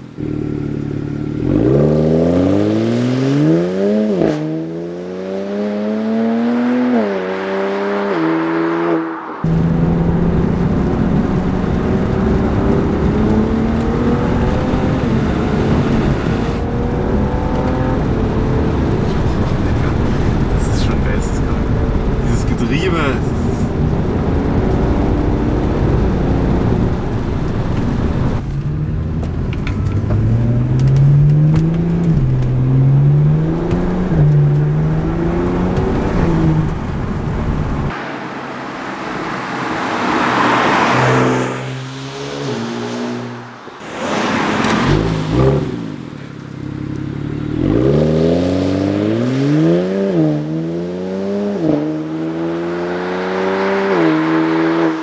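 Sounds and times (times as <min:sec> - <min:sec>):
car engine accelerating through gears: 0:00.0 - 0:55.0
road and wind noise: 0:00.0 - 0:55.0.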